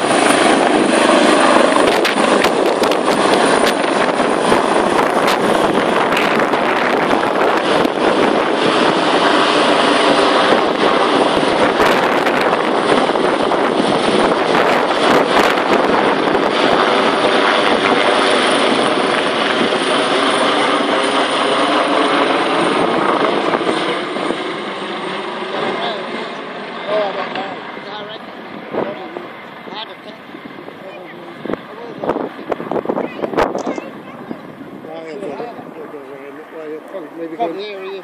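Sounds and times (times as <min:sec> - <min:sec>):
helicopter rotor and turbine noise: 0:00.0 - 0:38.0.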